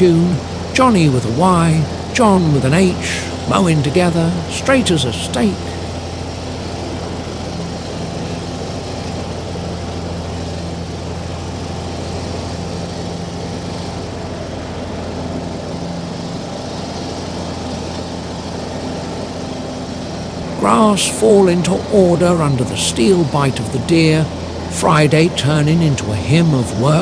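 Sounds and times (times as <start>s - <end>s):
riding lawn mower engine running: 0.0s - 27.0s.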